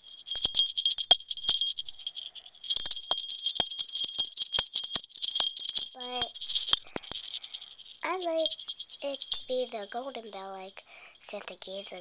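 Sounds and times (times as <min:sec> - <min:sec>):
jingle bell ringing: 0:00.0 - 0:10.8.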